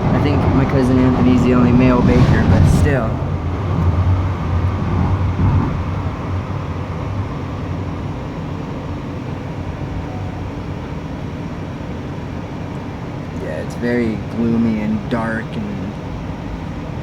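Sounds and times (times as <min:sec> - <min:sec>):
light rail car rumble: 0:00.0 - 0:17.0.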